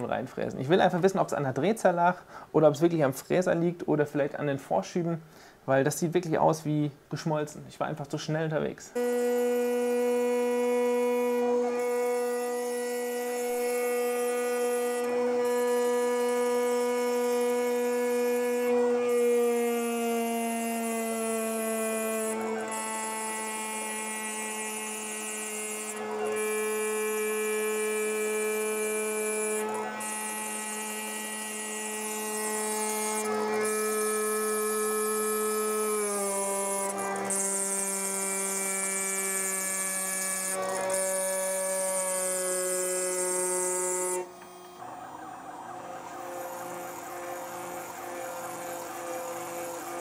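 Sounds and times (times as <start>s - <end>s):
router spindle whining: 8.9s - 50.0s.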